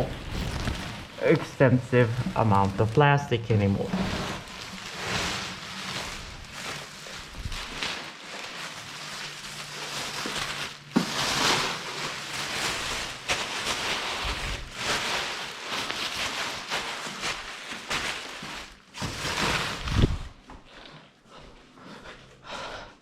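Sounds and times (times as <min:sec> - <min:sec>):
plastic parts rustling and scraping: 0:00.0 - 0:20.4.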